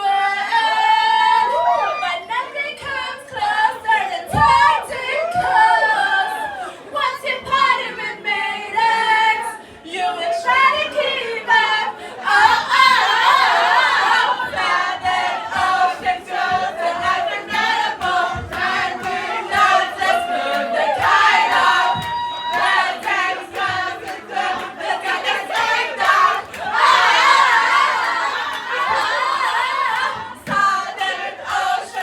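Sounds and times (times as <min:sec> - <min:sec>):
group of people singing: 0:00.0 - 0:32.0.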